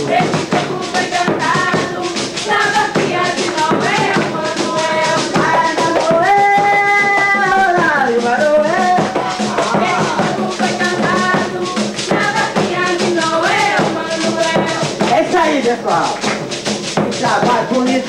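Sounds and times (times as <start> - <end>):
shaker rhythm: 0.0 - 18.0.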